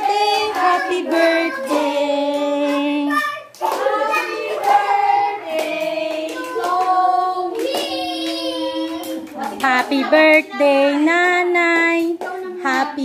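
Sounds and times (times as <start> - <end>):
group singing a celebration song: 0.0 - 13.0
people clapping along: 0.0 - 13.0.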